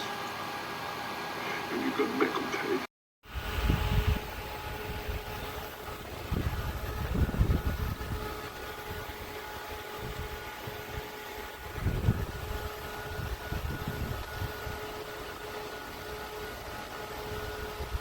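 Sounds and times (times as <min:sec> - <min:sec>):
electric fan whirring hum: 0:00.0 - 0:18.0.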